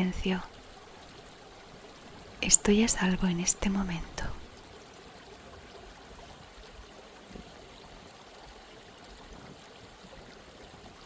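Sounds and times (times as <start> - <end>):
gently flowing water: 0.0 - 11.0.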